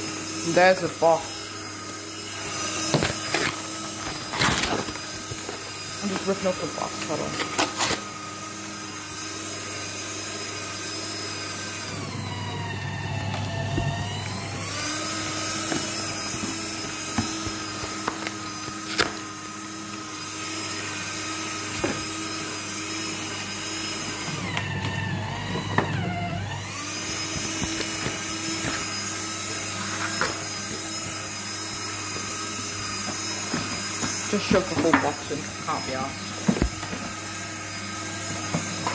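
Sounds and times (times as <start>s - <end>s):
paper shredder motor whine: 0.0s - 38.9s
shredder cutters clicking: 1.8s - 8.2s, 11.9s - 38.9s.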